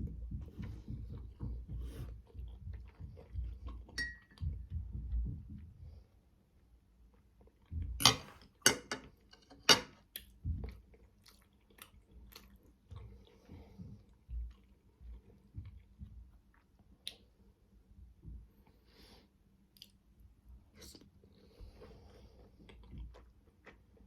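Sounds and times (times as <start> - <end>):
close chewing of dumplings: 0.0 - 9.3, 9.9 - 24.0.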